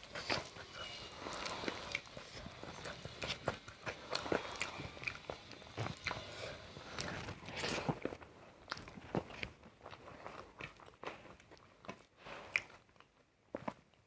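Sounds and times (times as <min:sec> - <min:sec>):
person chewing crisp food: 0:00.0 - 0:14.0.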